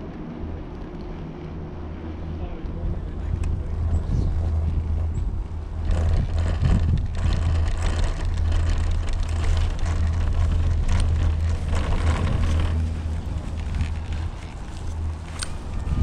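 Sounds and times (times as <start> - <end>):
wind rumble on microphone: 0.0 - 16.0
chairlift rope rolling and rattling: 2.9 - 16.0.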